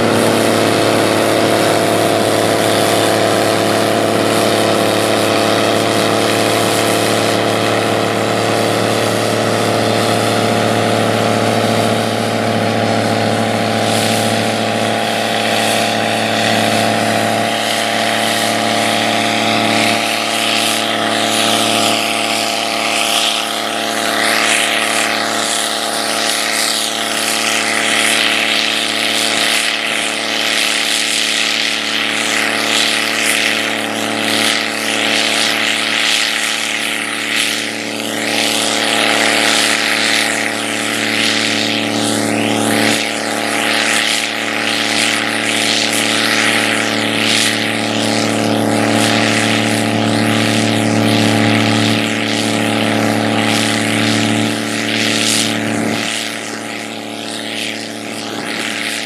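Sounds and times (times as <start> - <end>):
combine harvester drone: 0.0 - 59.0.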